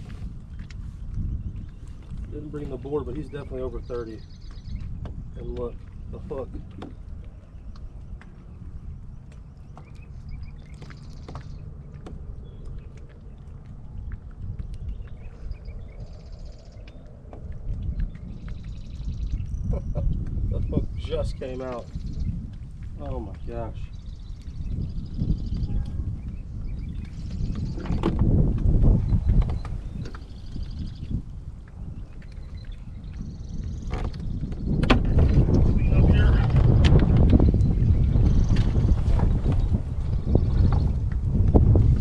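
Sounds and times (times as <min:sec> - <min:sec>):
strong wind buffeting microphone: 0:00.0 - 0:42.0.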